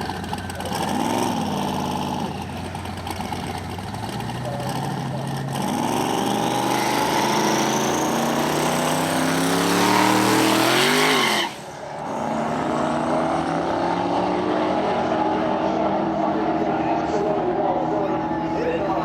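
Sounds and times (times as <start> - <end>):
drag car engine accelerating: 0.0 - 19.0.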